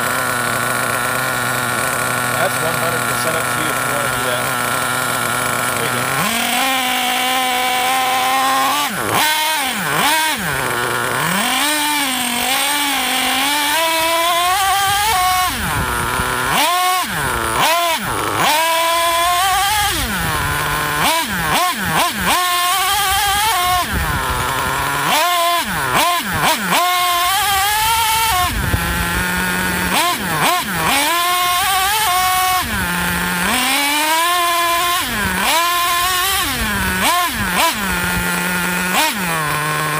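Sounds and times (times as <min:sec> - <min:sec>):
model engine revving: 0:00.0 - 0:39.9.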